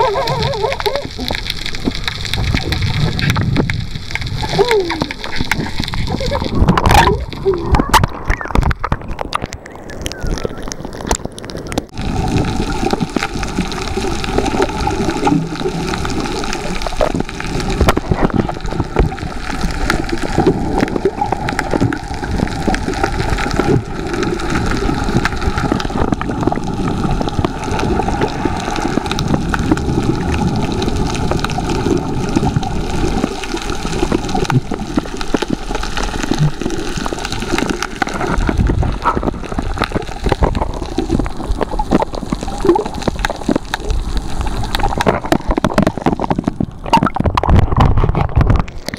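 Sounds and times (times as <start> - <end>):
underwater rushing and gurgling: 0.0 - 48.9.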